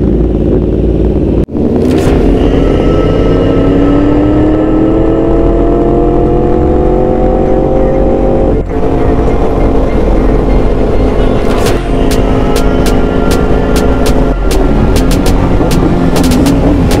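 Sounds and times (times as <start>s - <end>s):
motorcycle engine revving up: 0.0s - 17.0s.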